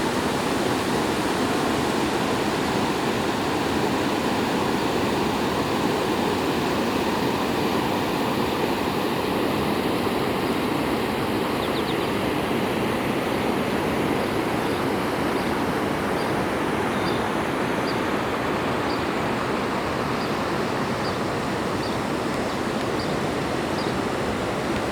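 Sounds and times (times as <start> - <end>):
floodwater rushing: 0.0 - 24.9.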